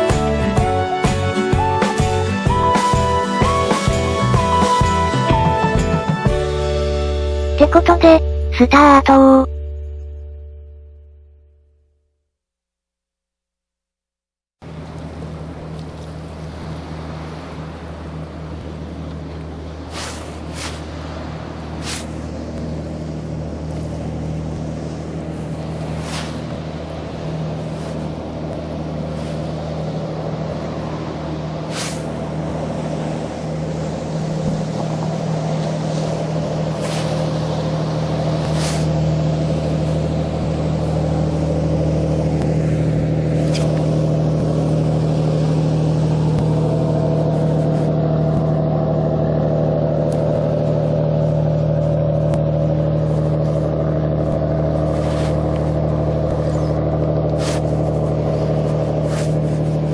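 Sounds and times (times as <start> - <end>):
motorboat engine passing: 0.0 - 8.5, 14.6 - 59.9.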